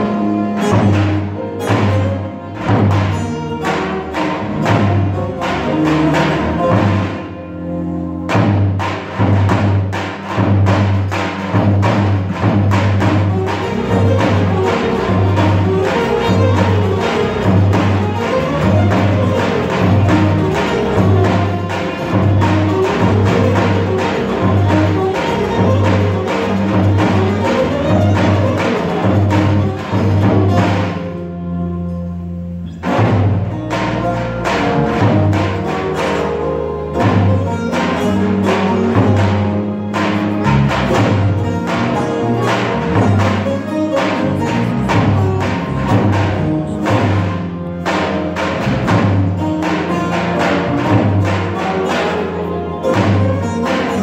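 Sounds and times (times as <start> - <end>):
steady drum beat: 0.0 - 7.6, 8.2 - 31.6, 32.6 - 54.0
folk ensemble with lutes: 0.0 - 54.0.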